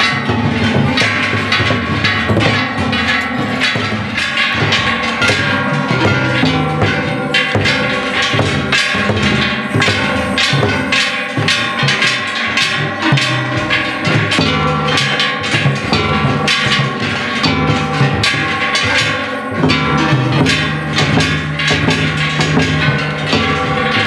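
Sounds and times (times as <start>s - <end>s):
brass gongs clanging: 0.0s - 24.0s
drum beats: 0.0s - 24.0s.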